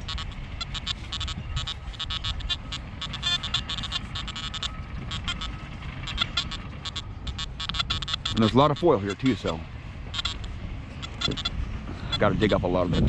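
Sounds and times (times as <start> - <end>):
metal detector high chirping tones: 0.0 - 11.5.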